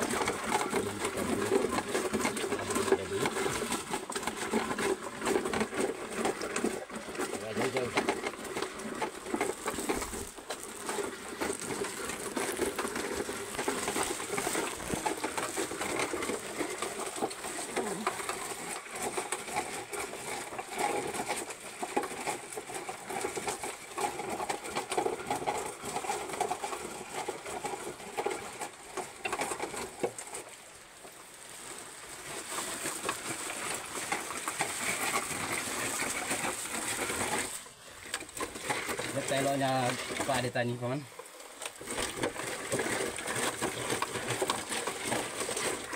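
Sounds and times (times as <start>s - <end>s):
coffee pulper rattling and grinding: 0.0s - 45.9s.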